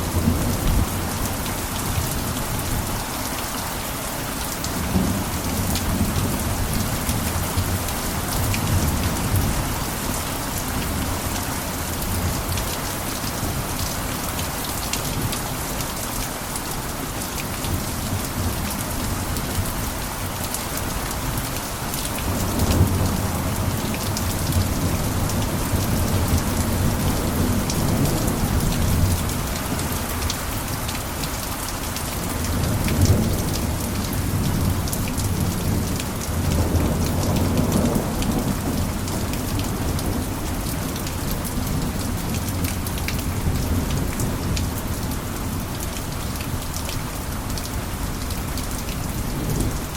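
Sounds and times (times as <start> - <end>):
heavy rain on a roof: 0.0 - 49.9.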